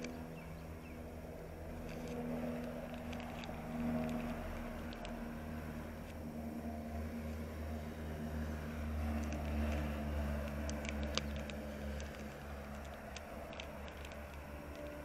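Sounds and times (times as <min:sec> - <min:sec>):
small clicks: 0:00.0 - 0:01.0, 0:01.6 - 0:06.2, 0:08.4 - 0:15.0.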